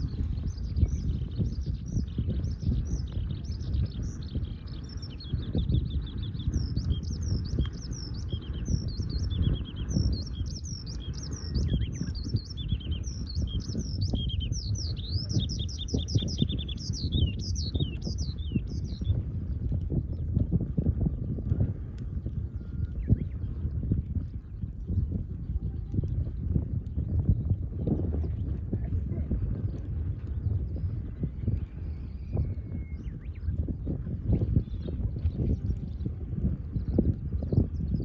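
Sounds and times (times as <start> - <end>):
campfire crackling: 0.0 - 38.0
songbirds chirping and trilling: 0.0 - 38.0.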